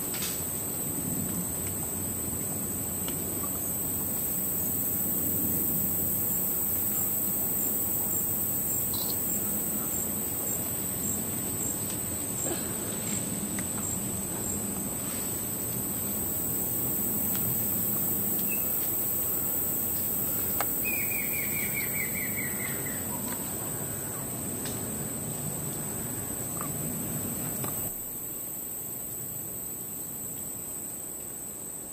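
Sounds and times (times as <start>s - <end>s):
insect chorus droning: 0.0s - 31.9s.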